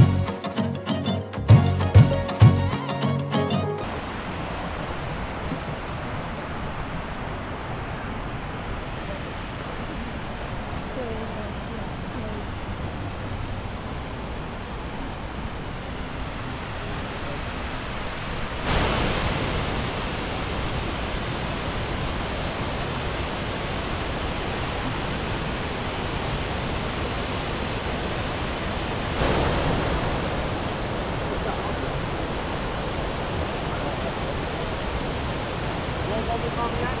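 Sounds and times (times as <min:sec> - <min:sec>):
waterfall rushing: 0:00.0 - 0:10.6, 0:16.4 - 0:37.0.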